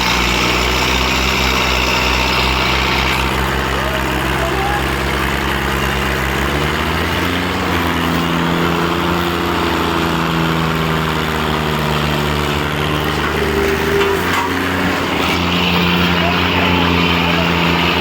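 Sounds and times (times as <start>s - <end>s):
diesel tractor engines running: 0.0s - 18.0s.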